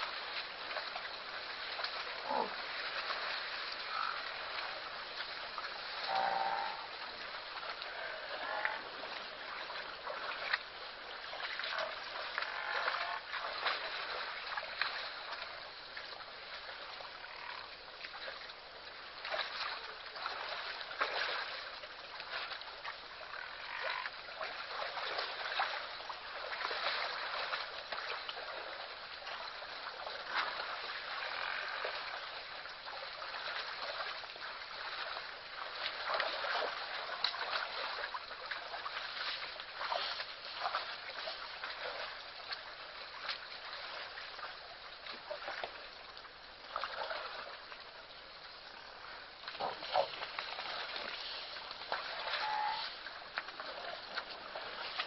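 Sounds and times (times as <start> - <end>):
animals splashing in water: 0.0 - 55.0
water sloshing: 0.0 - 55.0.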